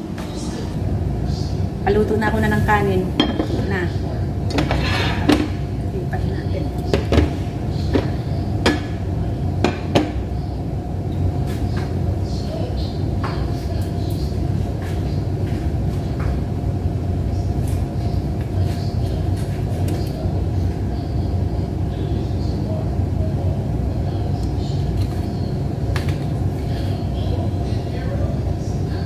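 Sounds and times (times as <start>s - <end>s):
low mechanical rumble with hum: 0.0s - 29.0s.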